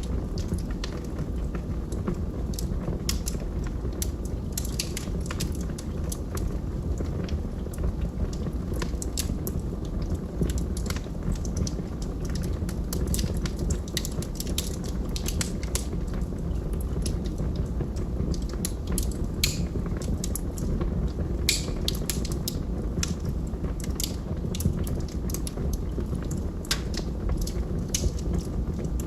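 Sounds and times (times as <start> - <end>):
log fire crackling: 0.0 - 29.0.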